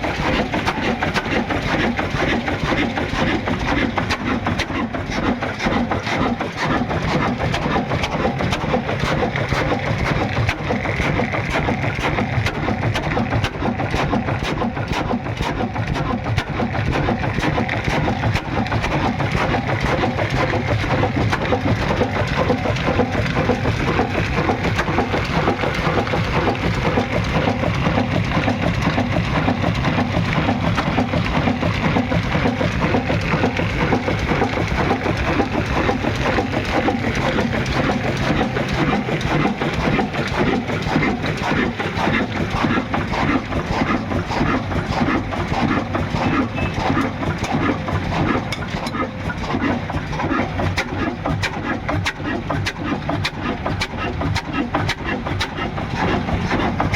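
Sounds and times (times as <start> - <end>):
diesel engine firing knocks: 0.0 - 56.9.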